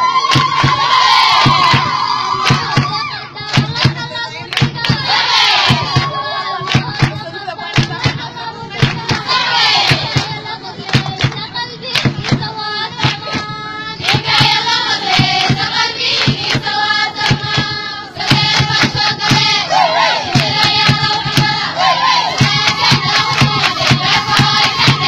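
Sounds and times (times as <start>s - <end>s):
girls singing in chorus: 0.0s - 25.0s
hand claps: 0.3s - 19.6s, 20.3s - 21.7s, 22.3s - 25.0s.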